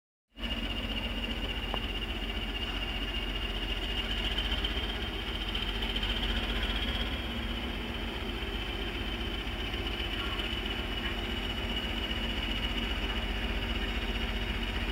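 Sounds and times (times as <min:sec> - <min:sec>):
diesel locomotive engine running: 0:00.3 - 0:14.9.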